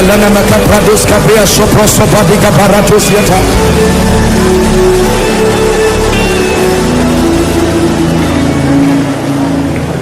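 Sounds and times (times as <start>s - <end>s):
sustained keyboard chords: 0.0s - 10.0s.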